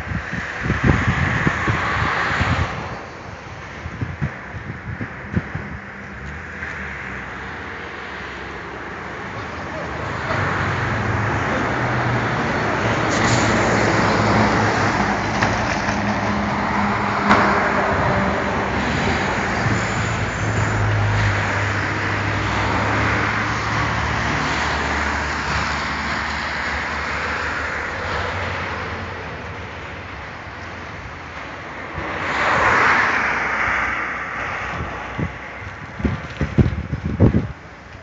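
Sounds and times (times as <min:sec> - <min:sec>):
tyre and road noise: 0:00.0 - 0:38.0.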